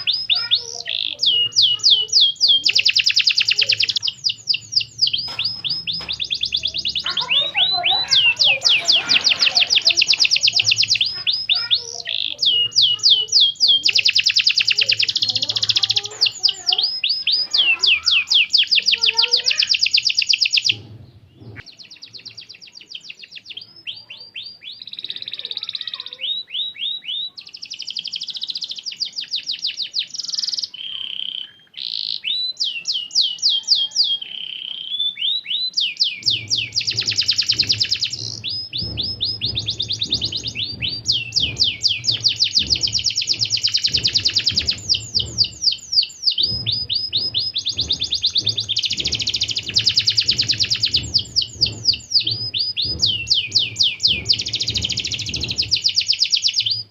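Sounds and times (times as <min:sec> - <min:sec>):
canary singing rapid trills: 0:00.0 - 0:56.9.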